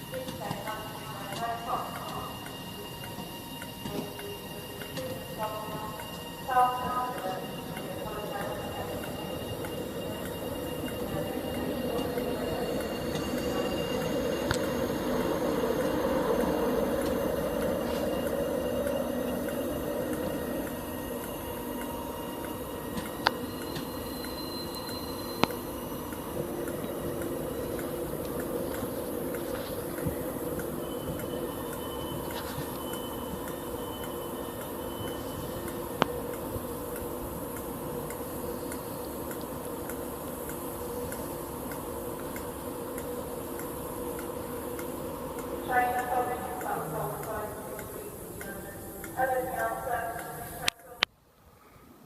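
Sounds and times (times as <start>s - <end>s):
electric train rumbling: 0.0s - 52.0s
faint high whine: 0.0s - 52.0s.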